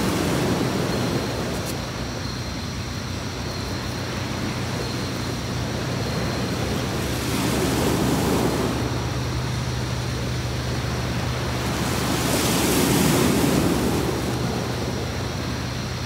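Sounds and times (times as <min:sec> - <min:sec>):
sea waves washing onto beach: 0:00.0 - 0:16.0
steady low hum: 0:00.0 - 0:16.0.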